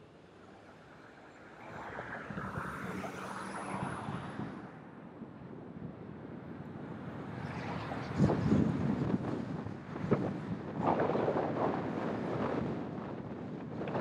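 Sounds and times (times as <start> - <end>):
car road noise: 0.0 - 14.0
wind buffeting microphone: 1.8 - 14.0.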